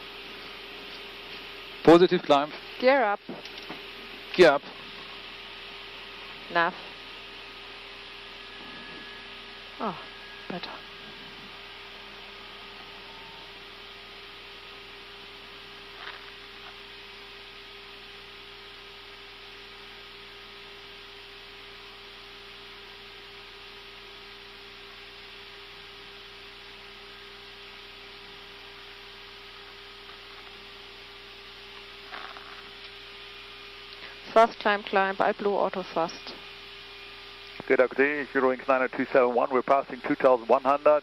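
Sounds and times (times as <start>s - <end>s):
hiss of airflow and ventilation: 0.0s - 41.0s
steady hum: 0.0s - 41.0s.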